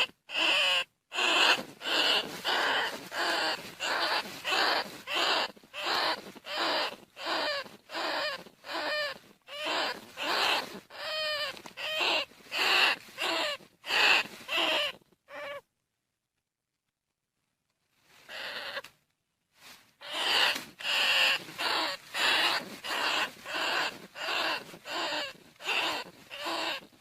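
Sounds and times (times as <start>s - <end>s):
rat squeaking calls: 0.0s - 15.6s, 18.3s - 18.9s, 20.0s - 27.0s.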